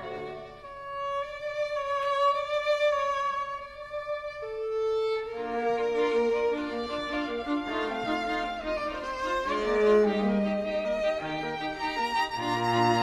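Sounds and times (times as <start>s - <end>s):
violin playing slow notes: 0.0s - 13.0s.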